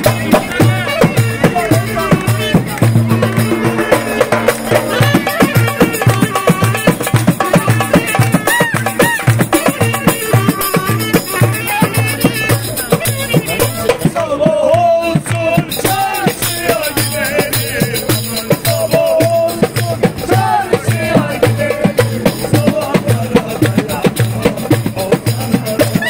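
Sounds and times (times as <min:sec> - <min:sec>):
tambourine jingling: 0:00.0 - 0:14.1, 0:15.6 - 0:26.0
hand drum beat: 0:00.0 - 0:26.0.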